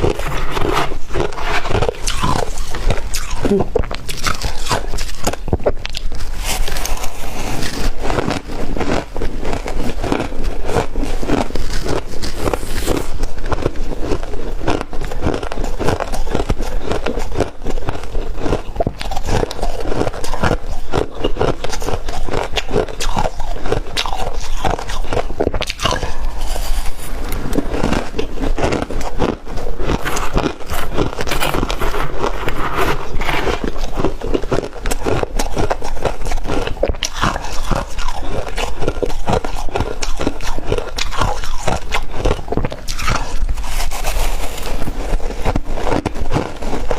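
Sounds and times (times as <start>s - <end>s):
frost being chewed crunching: 0.0s - 46.9s.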